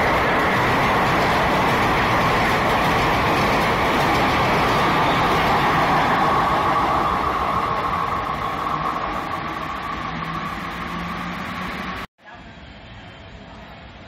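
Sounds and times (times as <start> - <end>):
passenger train passing on track: 0.0 - 14.0.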